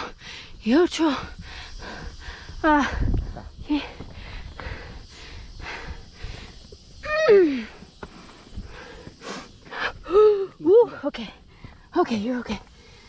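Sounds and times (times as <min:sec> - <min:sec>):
woman breathing hard: 0:00.0 - 0:11.9.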